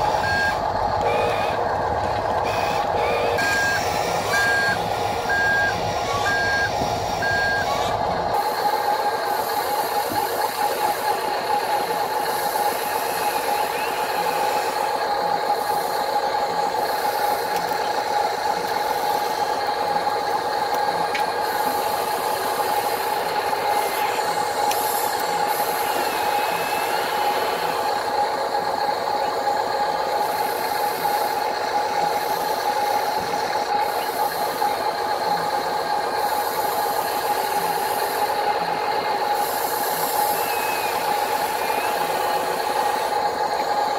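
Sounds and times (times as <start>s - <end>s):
electric motors whining and humming: 0.0s - 43.9s.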